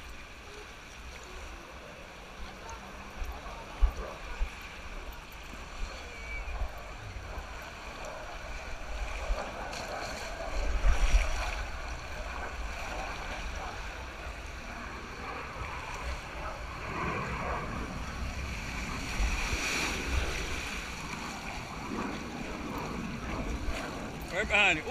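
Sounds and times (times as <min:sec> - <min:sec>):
water rushing and splashing: 0:00.0 - 0:24.9
wind buffeting microphone: 0:00.0 - 0:24.9.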